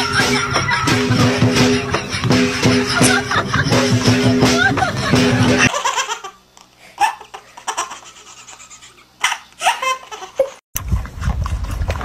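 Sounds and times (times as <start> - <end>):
baby laughing: 0.0 - 6.4, 7.0 - 10.6.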